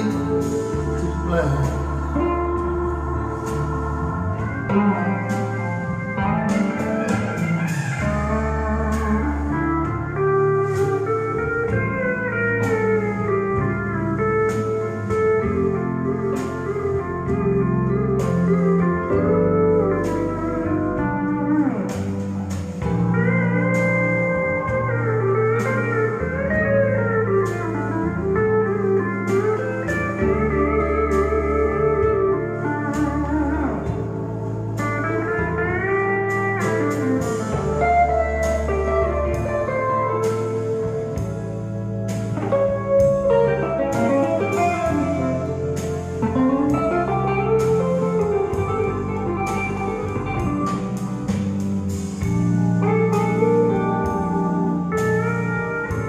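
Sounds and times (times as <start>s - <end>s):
slide guitar lead: 0.0s - 56.0s
sustained bass notes: 0.0s - 56.0s.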